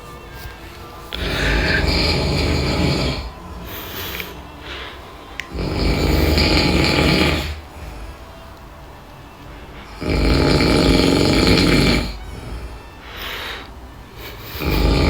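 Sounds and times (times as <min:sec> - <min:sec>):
man snoring loudly: 0:00.9 - 0:08.6, 0:09.6 - 0:15.0.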